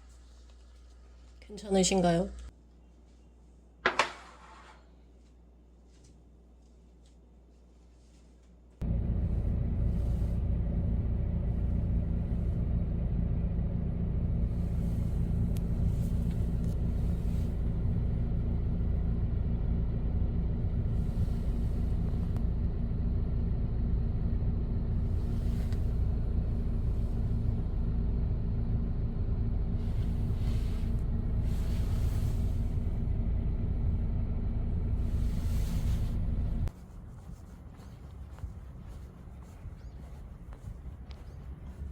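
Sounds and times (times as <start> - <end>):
constant hum: 4.9 - 41.9
low mechanical rumble: 5.0 - 41.9.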